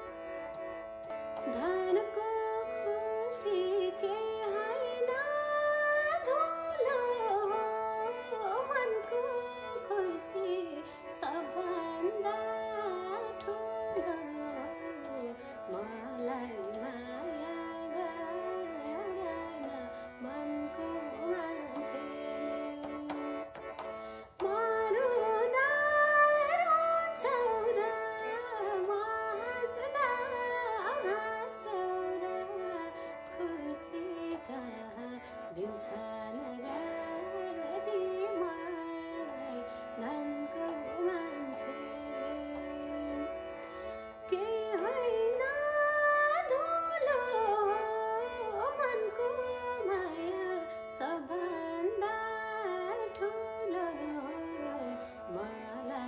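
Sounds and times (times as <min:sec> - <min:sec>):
woman singing ornamented melody: 0:01.4 - 0:23.5, 0:24.4 - 0:43.2, 0:44.3 - 0:56.0.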